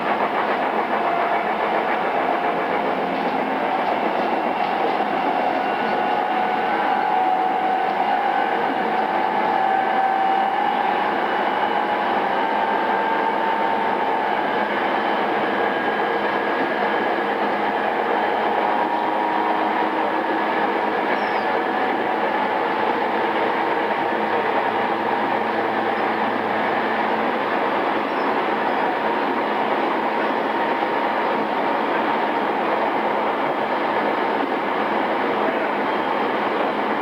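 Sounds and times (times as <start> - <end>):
train wheel and rail noise: 0.0 - 37.0.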